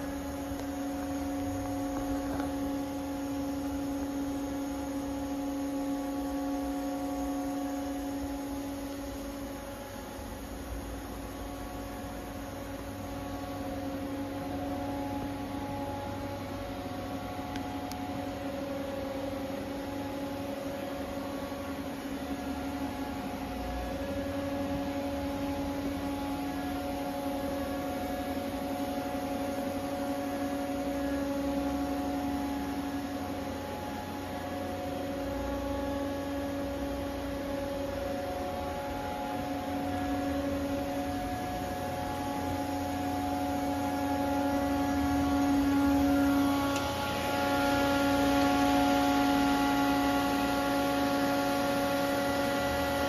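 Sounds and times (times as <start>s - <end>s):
machinery hum: 0.0s - 53.0s.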